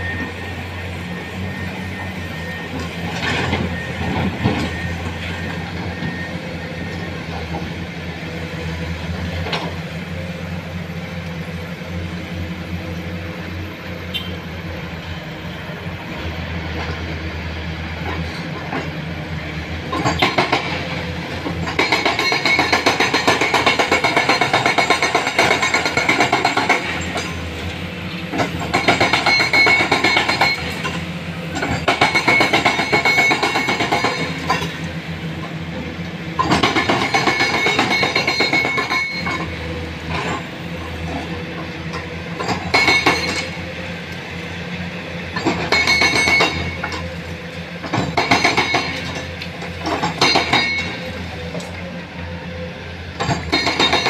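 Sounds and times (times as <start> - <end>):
diesel engines humming: 0.0 - 54.0.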